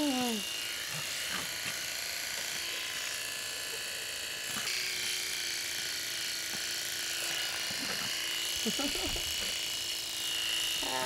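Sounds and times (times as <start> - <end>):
electric clippers running: 0.0 - 11.0.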